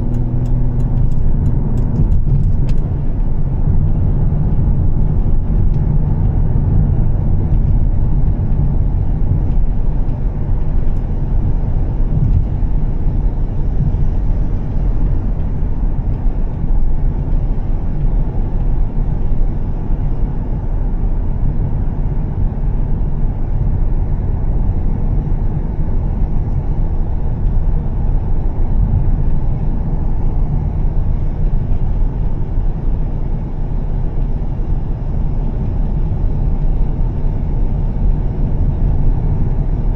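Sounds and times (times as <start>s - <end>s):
car engine low rumble: 0.0s - 39.9s
road noise: 0.0s - 39.9s.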